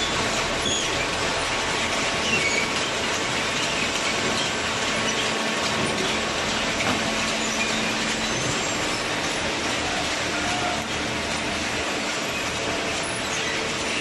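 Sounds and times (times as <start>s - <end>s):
high machine squeaks: 0.0s - 1.2s, 2.1s - 11.0s, 12.2s - 14.0s.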